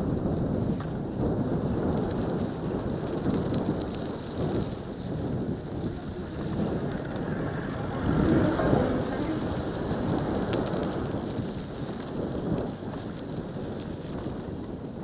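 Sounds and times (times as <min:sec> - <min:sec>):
bike tyres rumbling over gravel: 0:00.0 - 0:15.0
wind buffeting microphone: 0:00.0 - 0:15.0.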